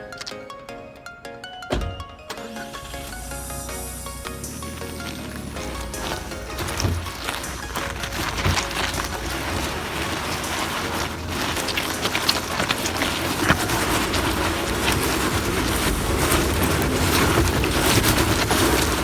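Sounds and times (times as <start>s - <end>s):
stones popping and ticking: 0.0s - 0.5s, 2.8s - 19.0s
tyres crunching over gravel: 0.0s - 19.0s.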